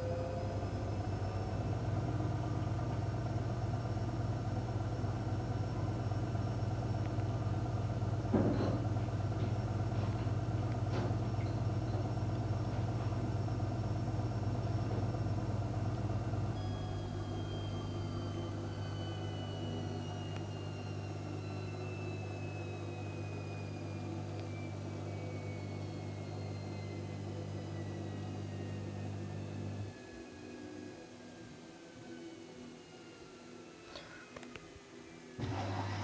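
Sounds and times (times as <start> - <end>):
washing machine motor hum: 0.0 - 31.6, 35.4 - 36.0.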